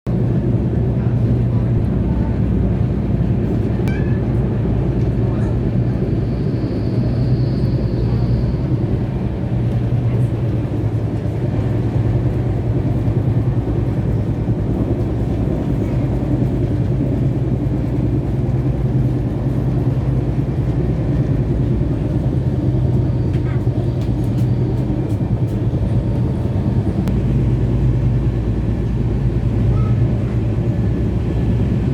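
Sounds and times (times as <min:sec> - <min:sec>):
constant low hum: 0:00.1 - 0:31.9
train running rumble: 0:00.1 - 0:31.9.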